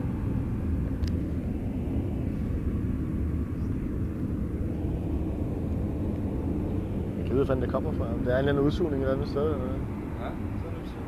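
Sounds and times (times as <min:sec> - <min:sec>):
low rumbling drone: 0:00.0 - 0:11.0.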